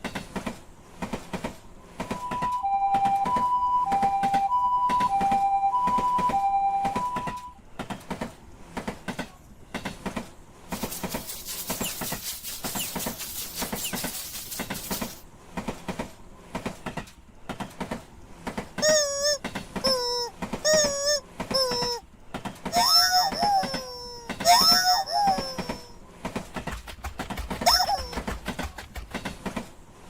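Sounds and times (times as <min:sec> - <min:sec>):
train rushing noise: 0:00.0 - 0:30.0
train wheels clattering: 0:00.0 - 0:30.0.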